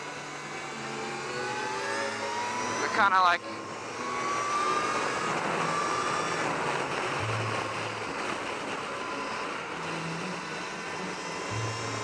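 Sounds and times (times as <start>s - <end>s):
high motor whine: 0.0s - 12.0s.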